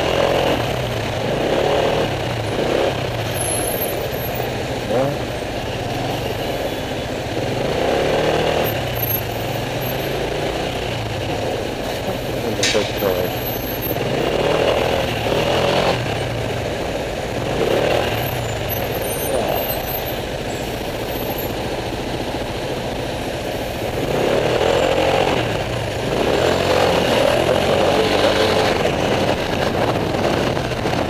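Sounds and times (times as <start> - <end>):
traffic engine hum: 0.0 - 31.0.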